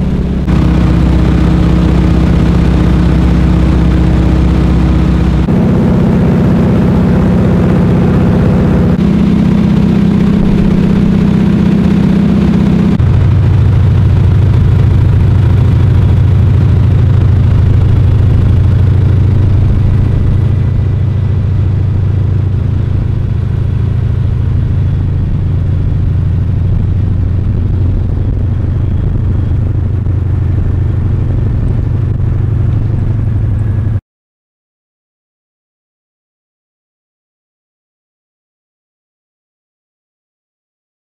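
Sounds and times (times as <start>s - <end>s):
plane engine droning: 0.0s - 34.0s.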